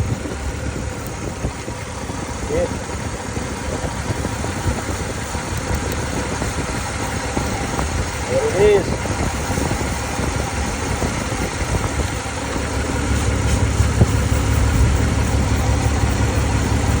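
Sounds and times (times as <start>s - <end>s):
engine idling with misfire: 0.0s - 17.0s.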